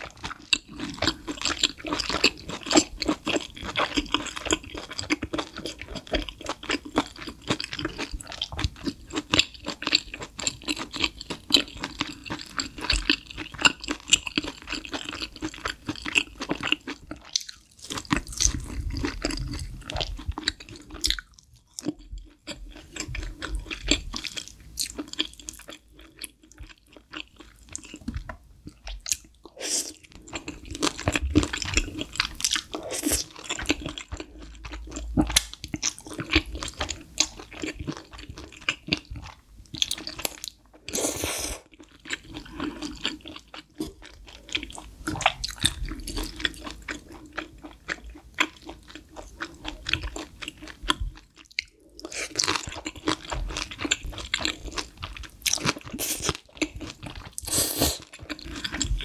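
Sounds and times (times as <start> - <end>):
wet crunchy chewing: 0.0 - 59.0.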